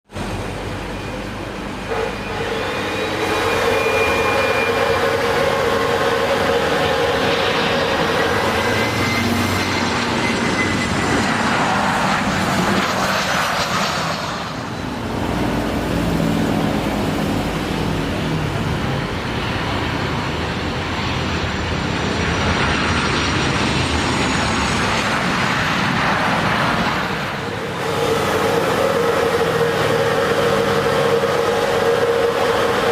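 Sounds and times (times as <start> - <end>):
jet airliner on landing approach: 0.1 - 32.9.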